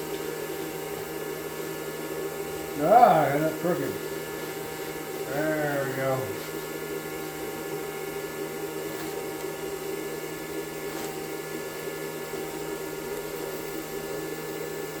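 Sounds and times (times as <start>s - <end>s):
hair dryer whirring: 0.0s - 15.0s.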